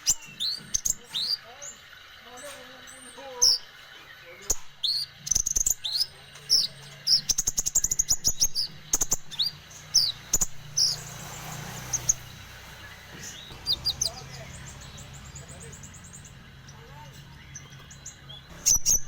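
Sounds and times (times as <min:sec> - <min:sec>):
songbird whistling: 0:00.0 - 0:19.0.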